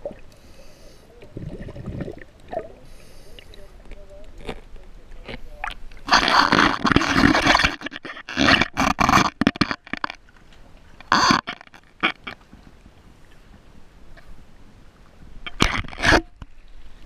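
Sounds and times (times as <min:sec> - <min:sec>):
water sloshing and gurgling: 0:00.0 - 0:17.0.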